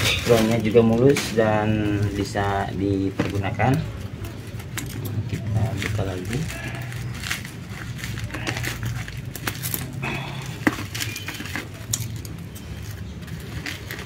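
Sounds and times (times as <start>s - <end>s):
plastic crinkling: 0.0s - 14.0s
scissors cutting bubble wrap: 0.0s - 14.0s.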